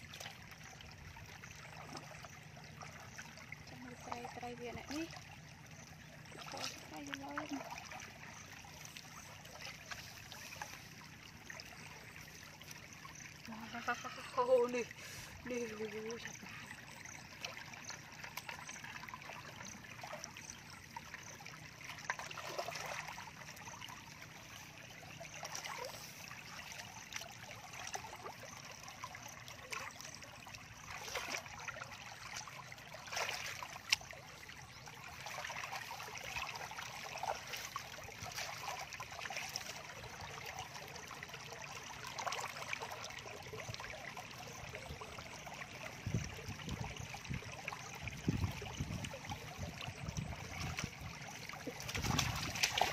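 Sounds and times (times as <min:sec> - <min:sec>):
shallow water trickling: 0:00.0 - 0:52.9
splashes in water: 0:01.6 - 0:52.9.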